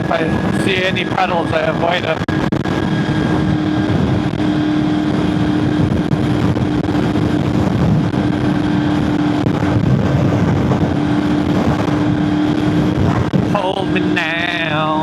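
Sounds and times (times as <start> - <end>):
motorcycle engine cruising: 0.0 - 15.0
wind rushing over microphone: 0.0 - 15.0.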